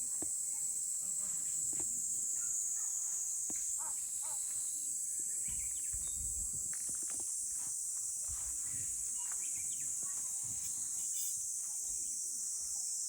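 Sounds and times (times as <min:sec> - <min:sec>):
insect chorus droning: 0:00.0 - 0:13.0.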